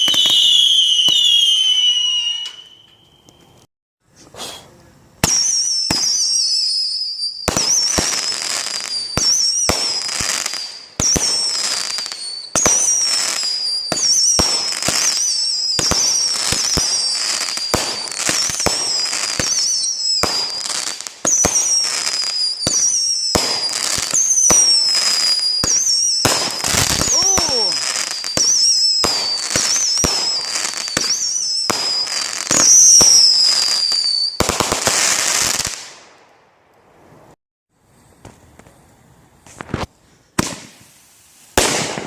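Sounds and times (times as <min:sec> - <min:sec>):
whistling fireworks: 0:00.0 - 0:03.7, 0:05.2 - 0:42.0.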